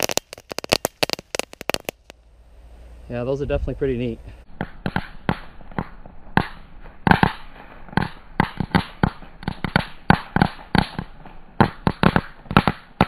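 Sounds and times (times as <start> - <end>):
fireworks crackling and popping: 0.0 - 2.2, 4.4 - 13.0.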